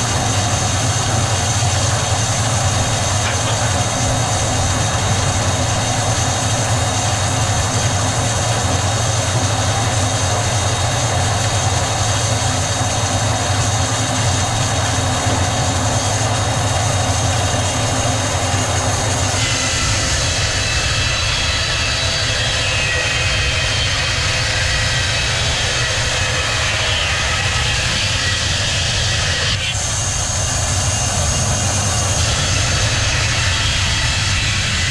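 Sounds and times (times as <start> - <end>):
sawmill machinery drone: 0.0 - 34.9.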